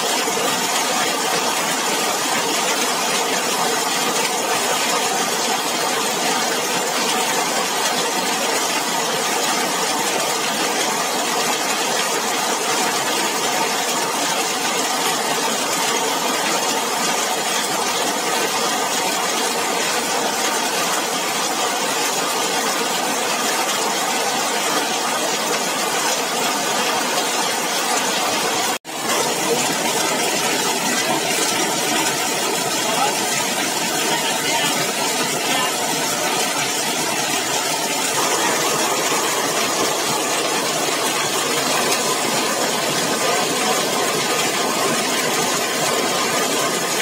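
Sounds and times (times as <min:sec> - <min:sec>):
rain drumming on metal roof: 0:00.0 - 0:47.0
rain splashing on pavement: 0:00.0 - 0:47.0.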